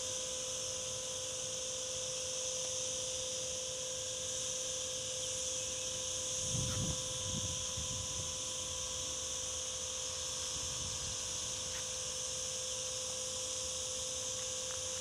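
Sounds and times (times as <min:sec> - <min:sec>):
faint constant hum: 0:00.0 - 0:15.0
insects buzzing: 0:00.0 - 0:15.0.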